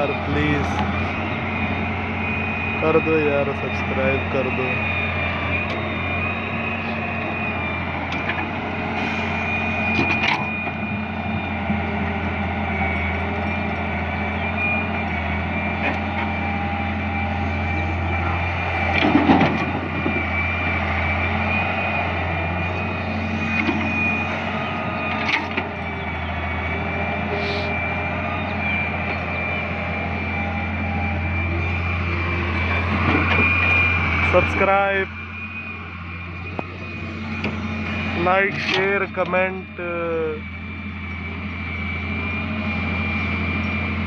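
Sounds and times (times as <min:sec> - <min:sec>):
diesel engine running: 0:00.0 - 0:44.0
high whine: 0:00.0 - 0:44.0.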